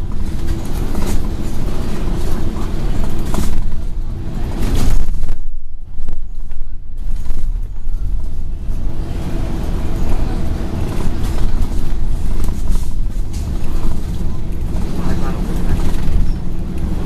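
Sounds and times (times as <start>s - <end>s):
bus diesel engine droning: 0.0s - 17.0s
road and body noise: 0.0s - 17.0s.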